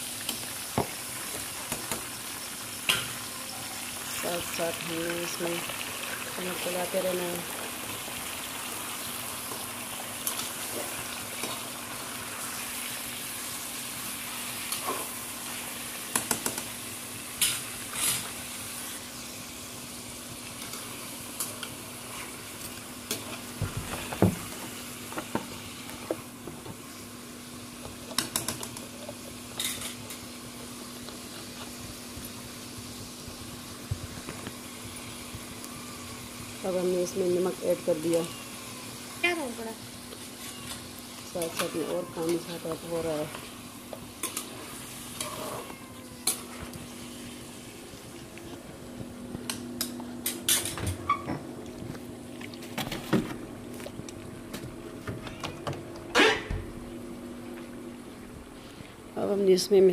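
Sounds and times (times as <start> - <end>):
chicken sizzling in hot oil: 0.0 - 48.2.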